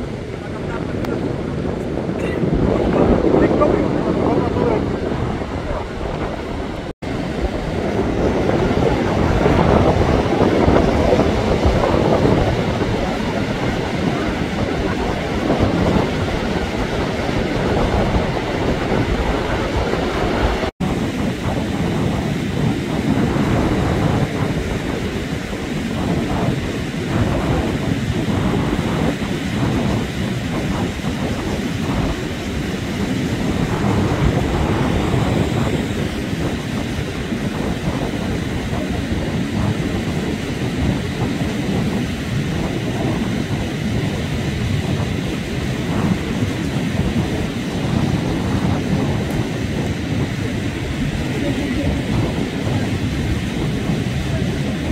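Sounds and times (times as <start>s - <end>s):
surf breaking on shore: 0.0s - 54.9s.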